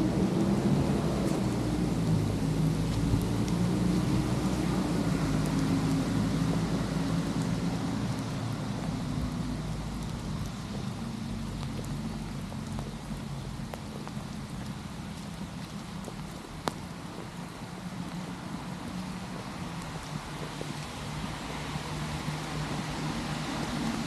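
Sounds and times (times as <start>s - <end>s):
steady rain on trees: 0.0s - 24.0s.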